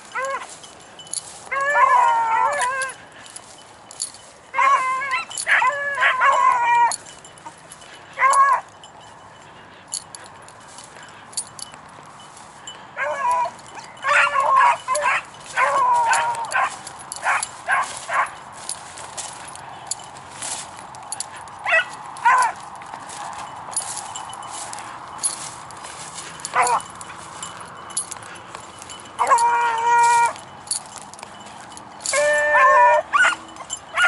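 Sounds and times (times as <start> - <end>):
brush crackling and rustling: 0.0 - 34.0
pups baying: 0.0 - 34.0.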